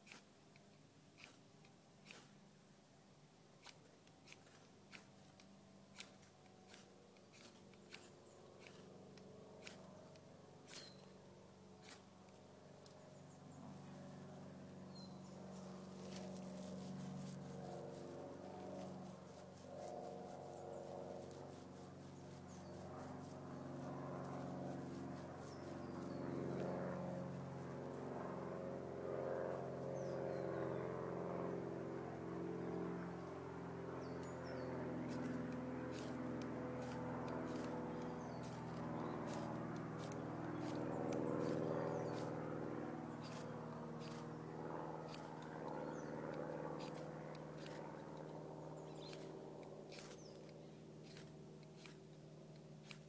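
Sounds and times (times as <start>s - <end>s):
low engine drone: 4.4s - 53.0s.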